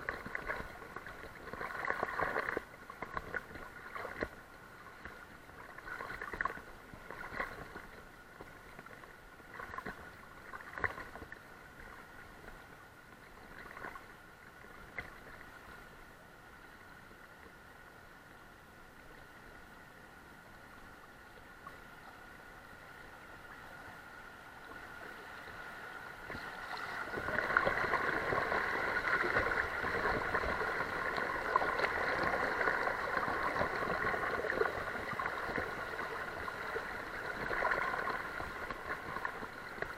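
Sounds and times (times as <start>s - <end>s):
river water splashing: 0.0s - 39.9s.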